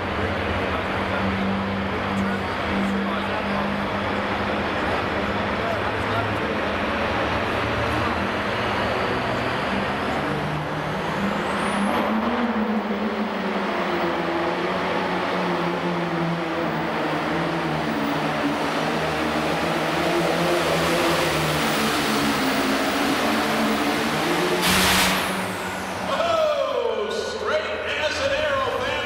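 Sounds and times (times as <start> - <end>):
diesel tractor engine under load: 0.0 - 29.0.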